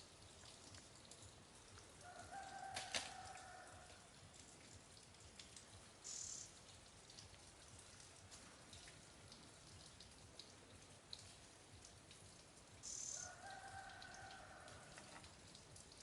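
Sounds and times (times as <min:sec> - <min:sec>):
faint ticks: 0:00.3 - 0:16.0.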